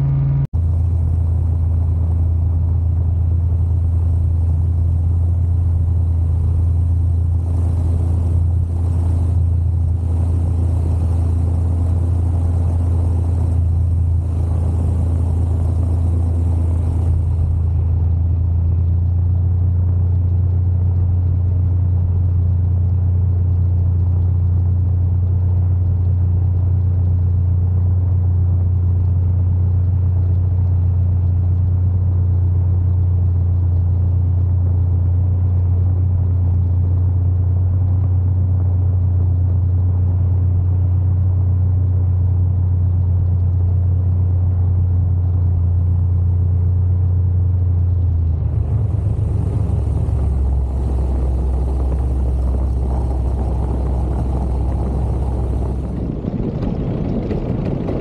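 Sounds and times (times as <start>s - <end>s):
paramotor engine drone: 0.0s - 58.0s.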